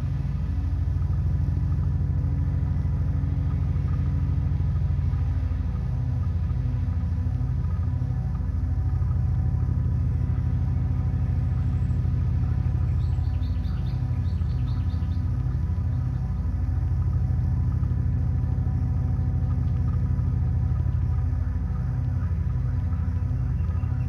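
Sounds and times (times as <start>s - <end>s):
low pulsing synth drone: 0.0s - 24.0s.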